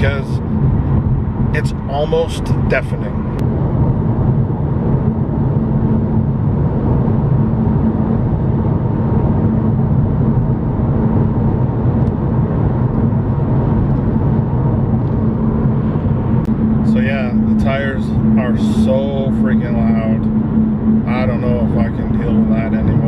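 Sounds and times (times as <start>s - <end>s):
tire roar inside car: 0.0s - 23.0s.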